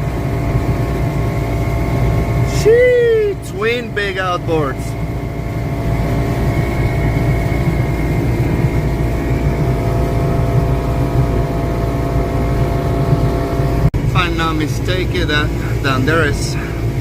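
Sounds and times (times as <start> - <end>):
outboard engine running: 0.0 - 17.0.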